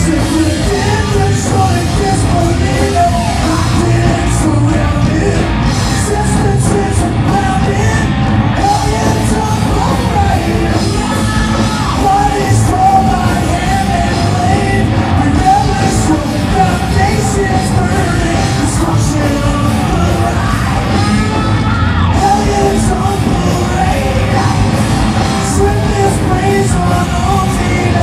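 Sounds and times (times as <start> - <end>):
live hard rock band: 0.0 - 28.0.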